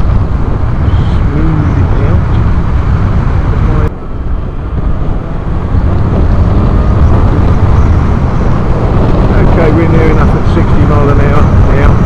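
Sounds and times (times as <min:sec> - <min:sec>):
motorcycle engine rumble: 0:00.0 - 0:12.0
road noise: 0:00.0 - 0:12.0
wind rush: 0:00.0 - 0:12.0.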